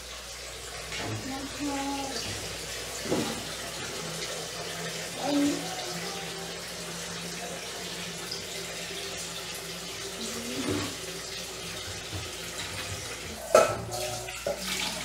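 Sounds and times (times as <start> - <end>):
faucet running into steel sink: 0.0 - 15.0.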